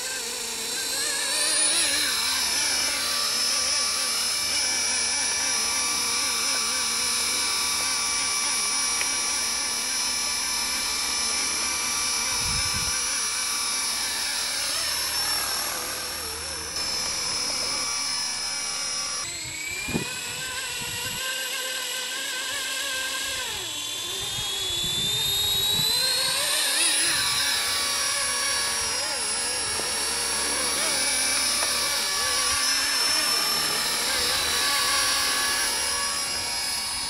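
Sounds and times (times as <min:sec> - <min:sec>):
electric motor high whine: 0:00.0 - 0:37.0
rotor blades whirring: 0:00.0 - 0:37.0.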